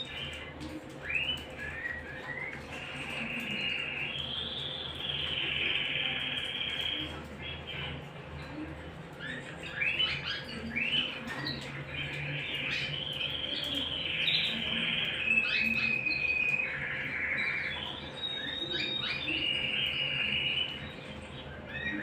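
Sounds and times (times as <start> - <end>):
canaries trilling and chirping: 0.0 - 22.0.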